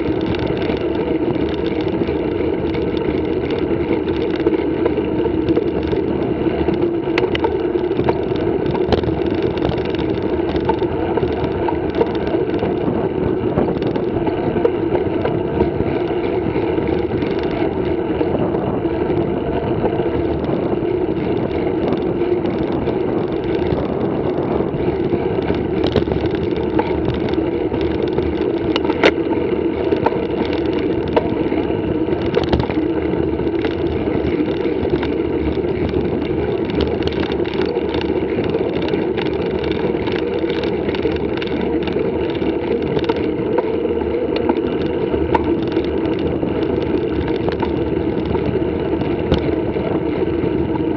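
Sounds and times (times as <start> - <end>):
bike tyres rolling on concrete: 0.0 - 50.9.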